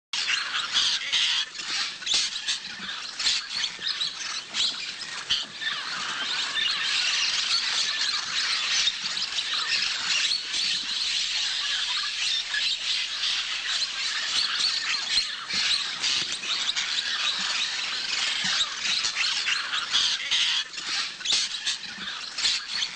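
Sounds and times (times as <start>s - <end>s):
parrots squawking and chattering: 0.2s - 22.9s.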